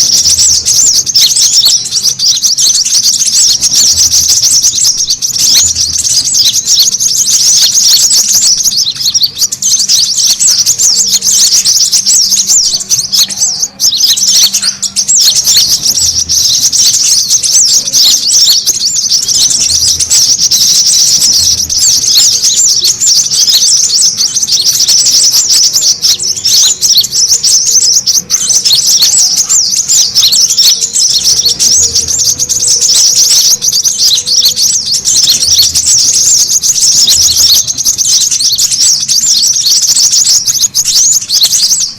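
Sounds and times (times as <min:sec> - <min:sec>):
birds twittering: 0:00.0 - 0:41.9.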